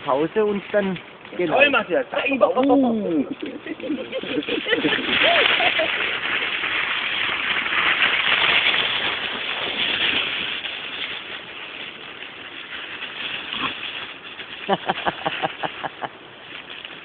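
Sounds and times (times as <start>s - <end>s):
dry leaves crunching underfoot: 2.6s - 17.0s.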